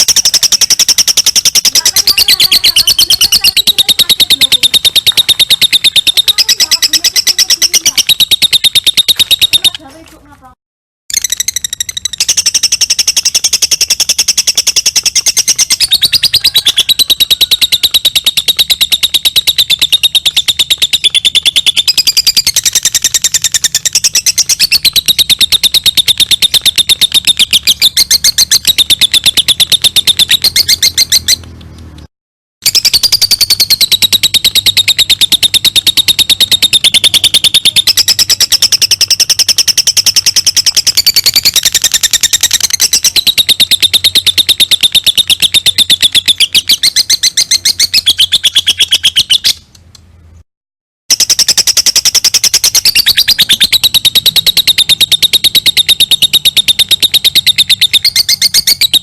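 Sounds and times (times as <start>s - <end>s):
lovebird shrill chattering song: 0.0s - 9.9s, 11.1s - 31.5s, 32.6s - 49.6s, 51.1s - 59.0s.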